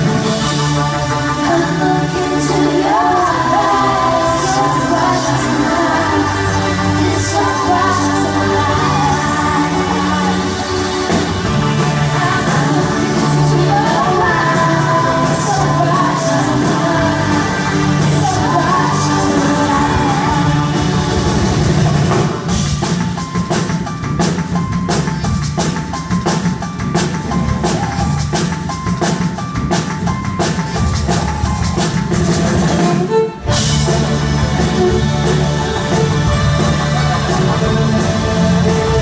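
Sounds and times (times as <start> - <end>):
live band playing: 0.0 - 39.0
steady drum beat: 0.0 - 39.0.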